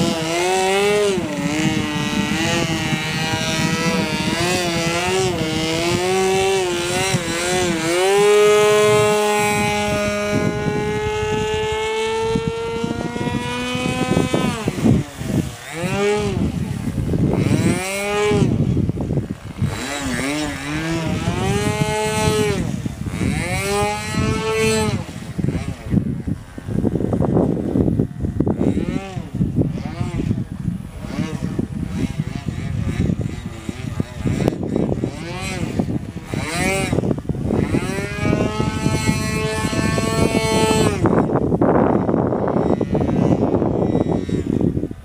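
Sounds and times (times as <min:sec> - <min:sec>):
model airplane engine running: 0:00.0 - 0:45.0.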